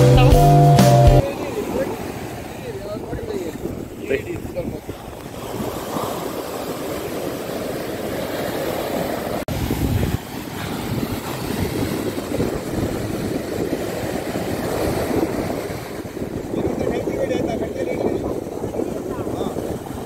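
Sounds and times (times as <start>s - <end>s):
surf breaking on beach: 0.1s - 20.0s
wind on microphone: 1.2s - 20.0s.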